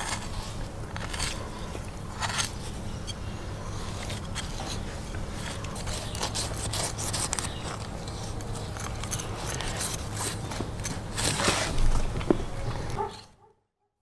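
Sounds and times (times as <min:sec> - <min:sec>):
knife scraping: 0:00.0 - 0:12.1.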